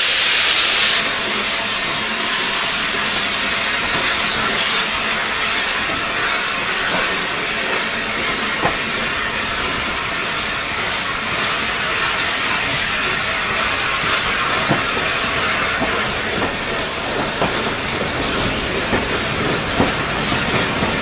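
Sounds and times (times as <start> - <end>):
train hissing rush: 0.0 - 21.0.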